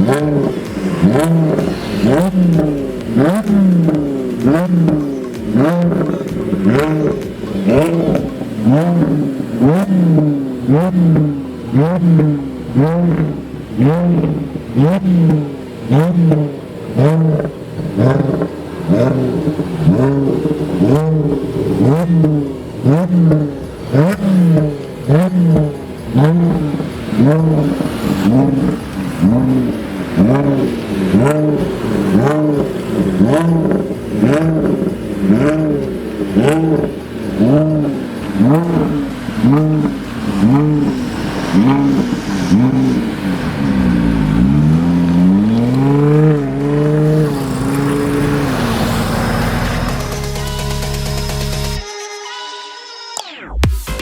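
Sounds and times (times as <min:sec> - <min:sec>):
car engine revving through loud exhaust: 0:00.0 - 0:51.8.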